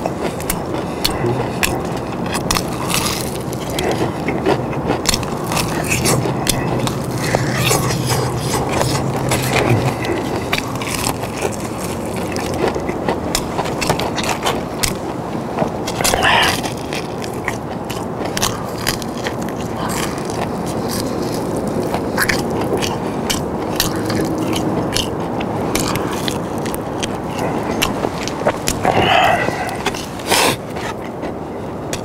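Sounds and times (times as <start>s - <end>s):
crunching fried chicken: 0.0s - 32.0s.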